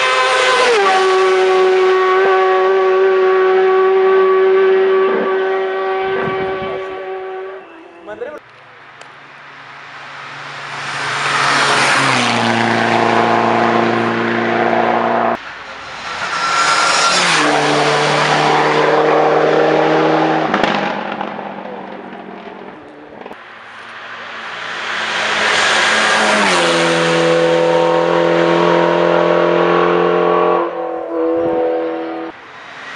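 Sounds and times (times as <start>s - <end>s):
race cars passing at full throttle: 0.0s - 32.9s.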